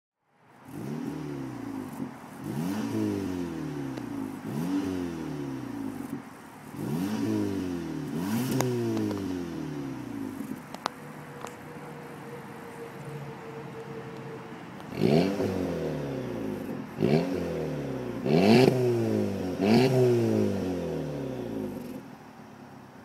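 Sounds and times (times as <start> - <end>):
exhaust cracks: 0.6 - 13.2, 13.8 - 22.1
car engine revving: 0.6 - 22.1.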